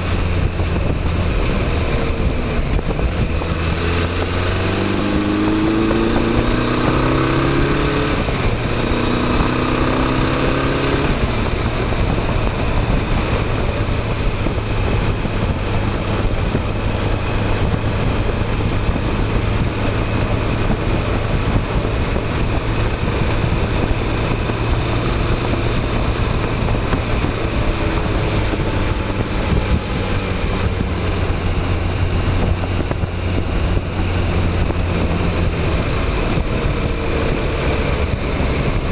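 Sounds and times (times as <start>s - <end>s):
motorcycle engine accelerating: 0.0s - 38.9s
wind noise: 0.0s - 38.9s.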